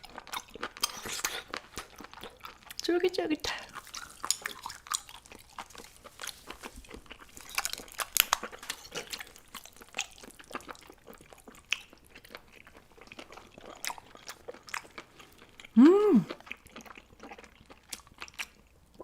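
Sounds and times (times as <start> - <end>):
wet chewing clicks and smacks: 0.0 - 2.9, 3.5 - 19.0.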